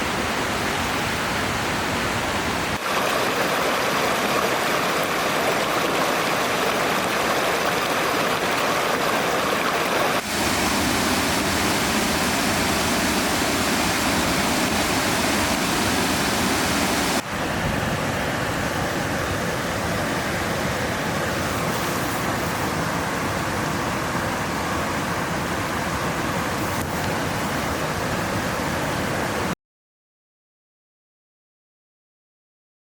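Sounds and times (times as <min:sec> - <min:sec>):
river water flowing: 0:00.0 - 0:29.6.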